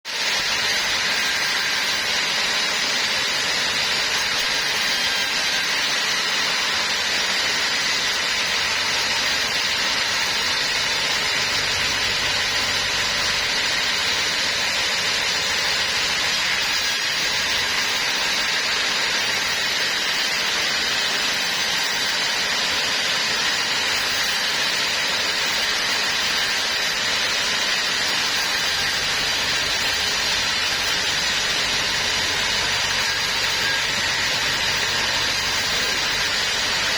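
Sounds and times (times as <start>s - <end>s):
sawmill saw whining: 0.1s - 36.9s.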